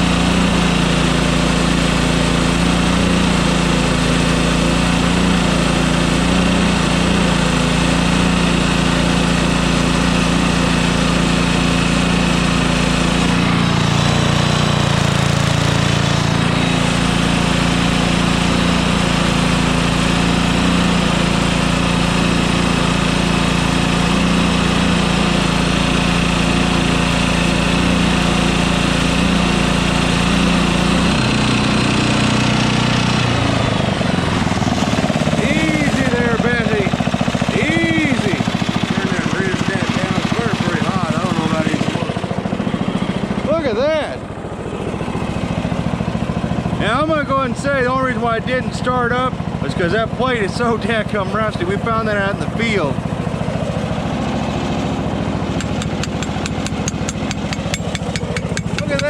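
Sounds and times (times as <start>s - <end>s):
engine-driven welder droning: 0.0s - 59.0s.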